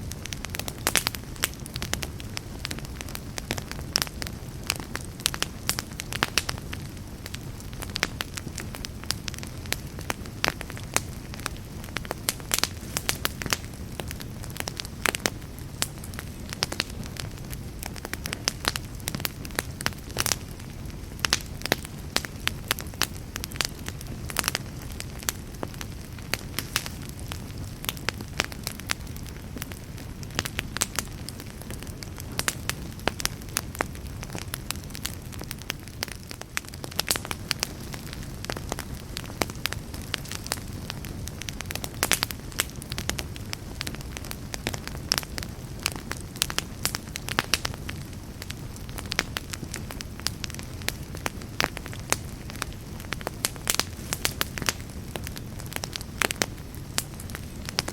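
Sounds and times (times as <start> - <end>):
fire crackling and popping: 0.0 - 57.9
low rumble of flame: 0.0 - 57.9.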